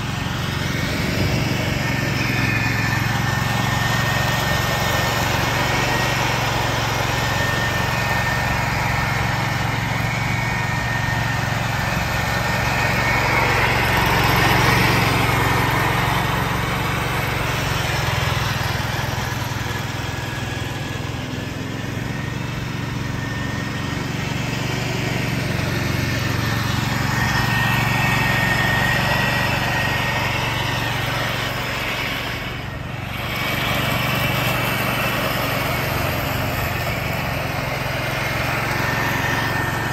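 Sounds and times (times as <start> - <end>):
mower blades shredding dry leaves: 0.0 - 39.9
tractor engine running under load: 0.0 - 39.9.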